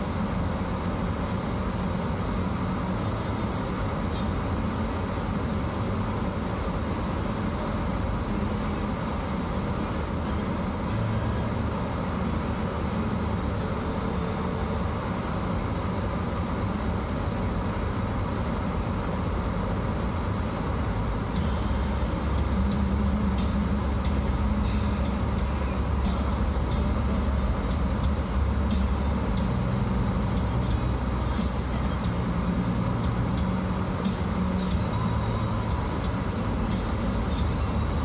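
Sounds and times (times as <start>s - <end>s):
car road noise: 0.0s - 38.0s.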